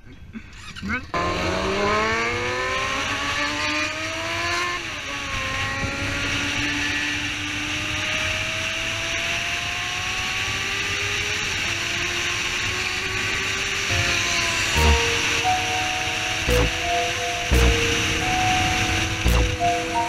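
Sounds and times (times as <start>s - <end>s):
motorcycle engine accelerating: 1.2s - 16.9s, 17.5s - 19.9s.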